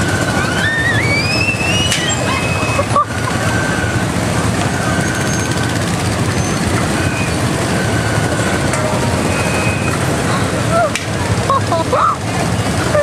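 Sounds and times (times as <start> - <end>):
ride car rumbling on track: 0.0 - 13.0.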